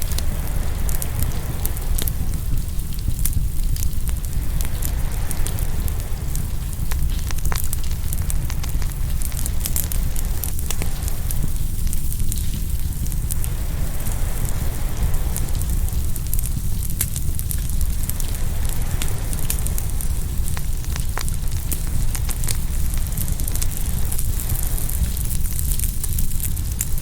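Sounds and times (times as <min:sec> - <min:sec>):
surf rumbling: 0:00.0 - 0:27.0
wood fire crackling: 0:00.0 - 0:27.0.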